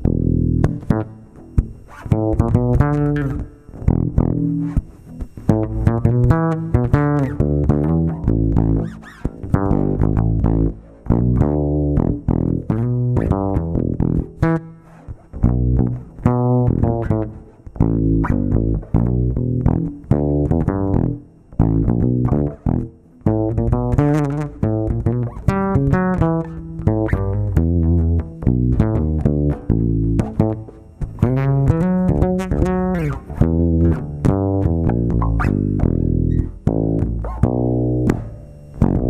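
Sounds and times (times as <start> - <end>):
plucked deep-pitched notes: 0.0 - 39.0.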